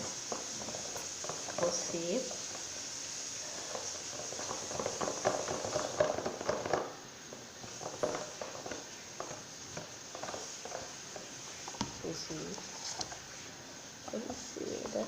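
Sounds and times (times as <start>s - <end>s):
slime being stirred: 0.0s - 15.0s.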